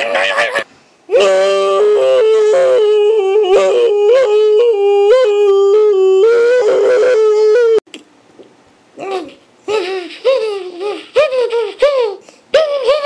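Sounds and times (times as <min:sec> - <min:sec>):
person yodeling high held tone: 0:01.1 - 0:07.8, 0:09.0 - 0:13.0.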